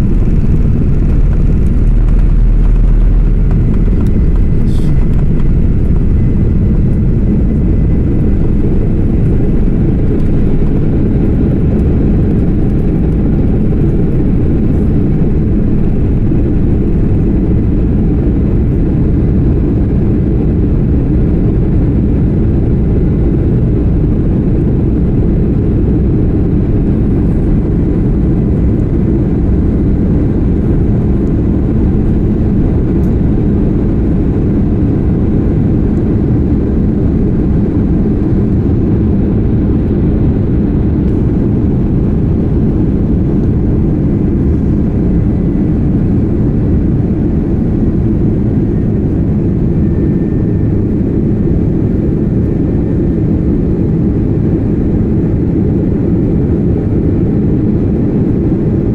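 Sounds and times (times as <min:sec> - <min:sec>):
jet engines in airliner cabin: 0:00.0 - 0:58.9.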